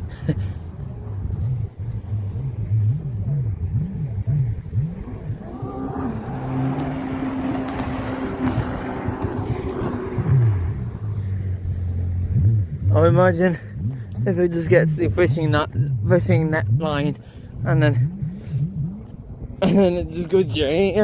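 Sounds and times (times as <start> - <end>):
motor vehicle passing: 0.0 - 19.6.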